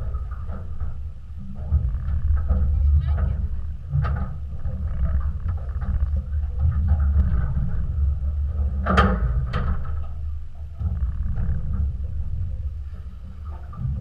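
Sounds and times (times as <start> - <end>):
wind and boat rumble: 0.0 - 14.0.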